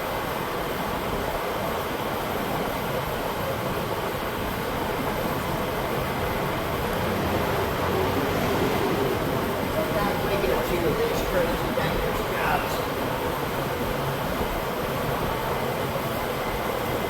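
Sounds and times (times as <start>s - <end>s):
fan blowing: 3.1s - 17.0s.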